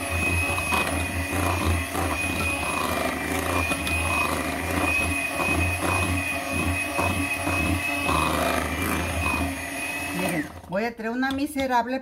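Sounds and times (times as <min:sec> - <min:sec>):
electric hand mixer whirring: 0:00.0 - 0:11.7.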